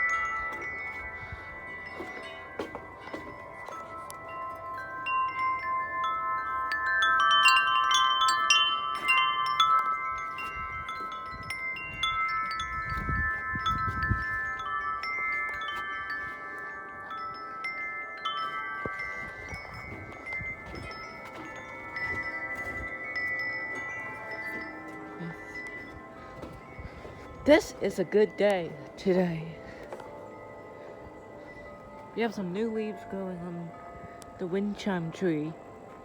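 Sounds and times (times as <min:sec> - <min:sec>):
low wind rumble: 0:00.0 - 0:36.0
wind chimes ringing: 0:00.0 - 0:36.0.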